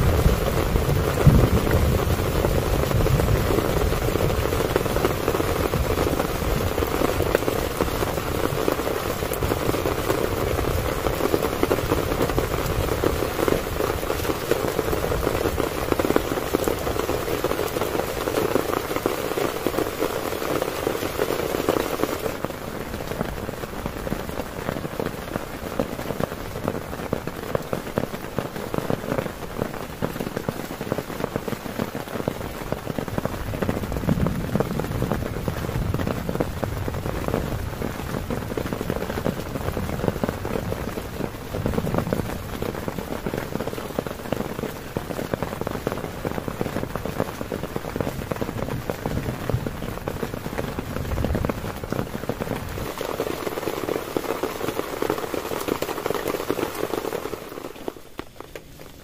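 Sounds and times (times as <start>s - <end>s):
heavy rain on tent: 0.0s - 59.0s.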